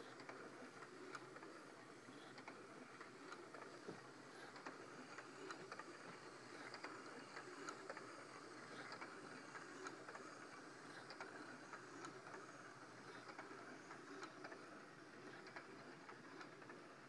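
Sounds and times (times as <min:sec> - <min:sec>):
soft irregular clicks: 0:00.0 - 0:17.0.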